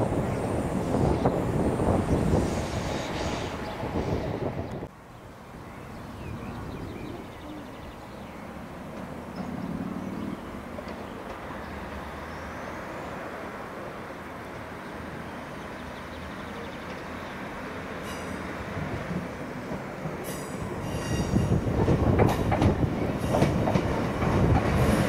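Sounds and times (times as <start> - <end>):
train rumble: 0.0 - 4.9, 6.1 - 12.4, 13.1 - 25.0.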